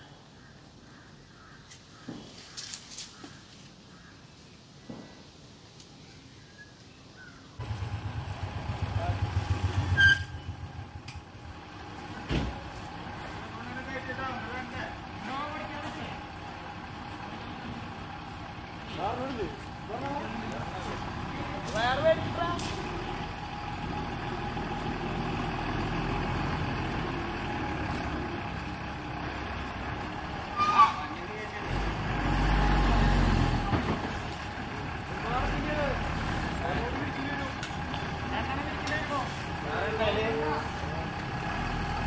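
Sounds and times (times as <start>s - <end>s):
lorry diesel engine rumbling: 7.6s - 42.0s.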